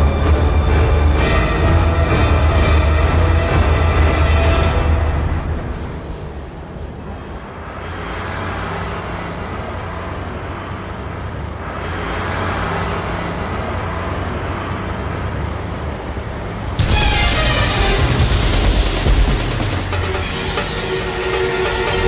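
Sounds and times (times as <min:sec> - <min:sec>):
road traffic rumble: 0:00.0 - 0:22.0
vehicles passing: 0:00.0 - 0:22.0.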